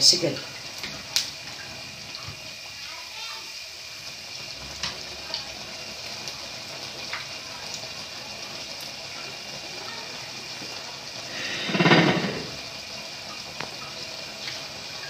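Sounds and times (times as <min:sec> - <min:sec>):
batter sizzling in hot oil: 0:00.0 - 0:15.0.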